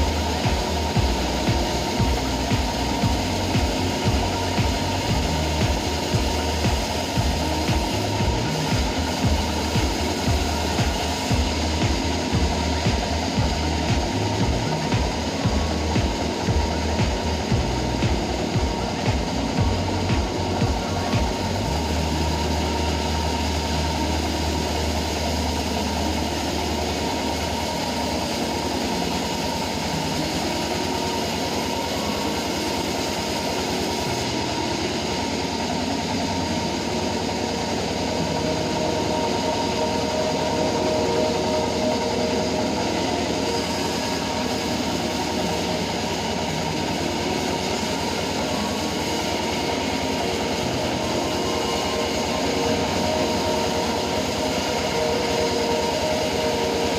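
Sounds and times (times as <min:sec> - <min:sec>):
band saw running: 0:00.0 - 0:56.9
engine drone: 0:00.0 - 0:56.9.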